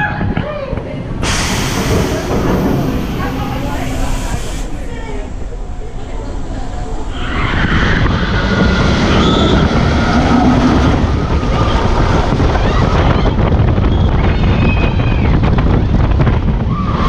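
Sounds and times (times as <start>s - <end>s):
roller coaster rumbling on track: 0.0s - 17.0s
wind rushing over microphone: 0.0s - 17.0s.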